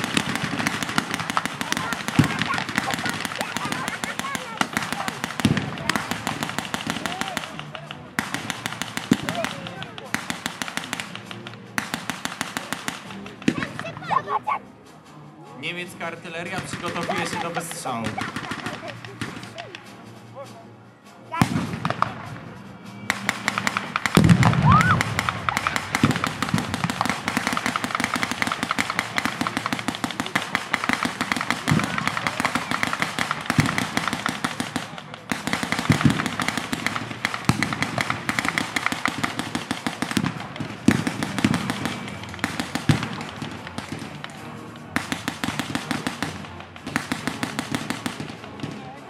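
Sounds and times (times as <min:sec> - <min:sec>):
pyrotechnic bangs: 0:00.0 - 0:14.0, 0:15.8 - 0:19.8, 0:21.4 - 0:48.9
blank gunfire crackle: 0:00.0 - 0:14.4, 0:15.6 - 0:20.0, 0:21.3 - 0:49.0.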